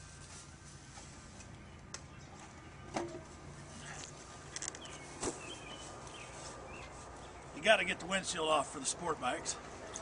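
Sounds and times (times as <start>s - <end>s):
faint steady background noise: 0.0s - 10.0s.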